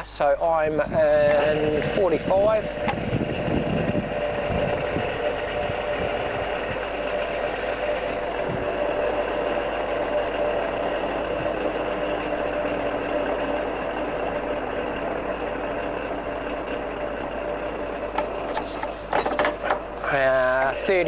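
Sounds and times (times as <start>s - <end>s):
drill machine humming: 0.7s - 21.0s.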